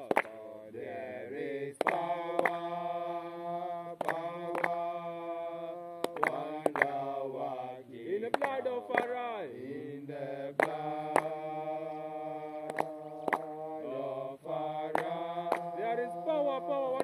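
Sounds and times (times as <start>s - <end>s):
voices singing slow chant: 0.0s - 17.0s.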